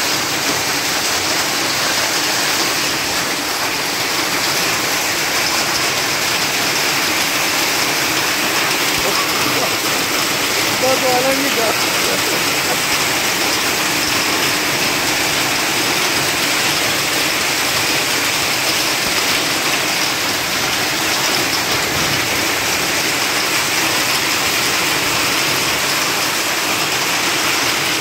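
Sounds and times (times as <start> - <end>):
hail and rain on a street: 0.0 - 28.0.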